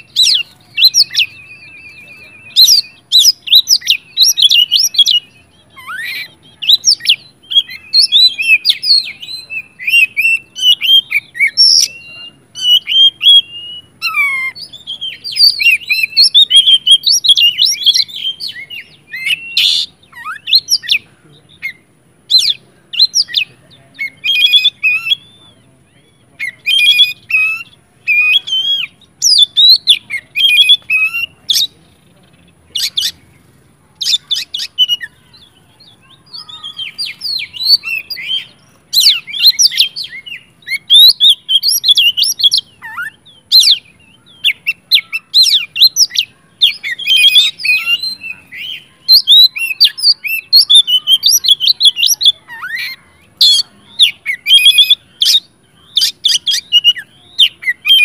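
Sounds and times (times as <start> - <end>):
bird singing whistled phrases: 0.0 - 31.8, 34.0 - 58.0.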